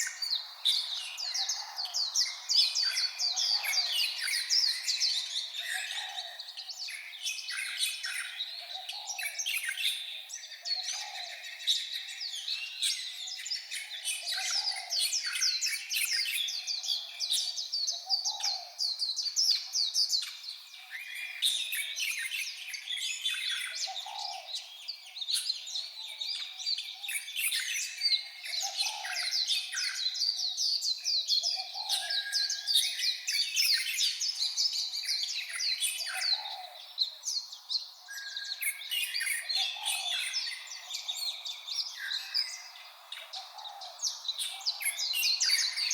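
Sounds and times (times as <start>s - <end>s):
birds twittering: 0.0s - 45.9s.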